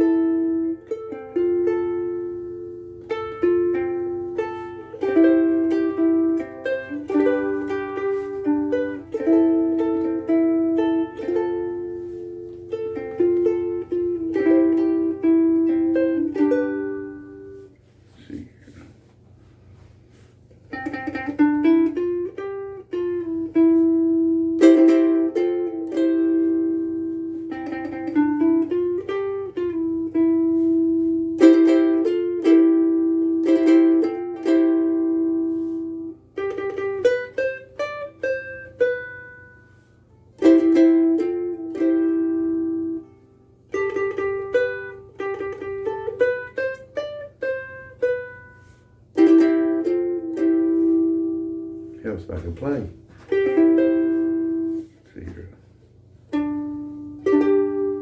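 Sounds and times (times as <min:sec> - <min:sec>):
ukulele plucked chords and melody: 0:00.0 - 0:17.8, 0:20.1 - 0:51.9, 0:52.6 - 0:55.0, 0:55.9 - 0:58.0.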